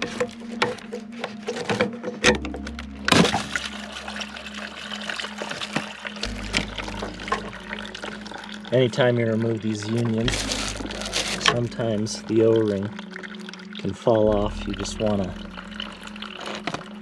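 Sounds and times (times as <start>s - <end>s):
background music with bass: 0.0s - 17.0s
water running out of pipe: 0.0s - 17.0s
water splash: 2.2s - 17.0s.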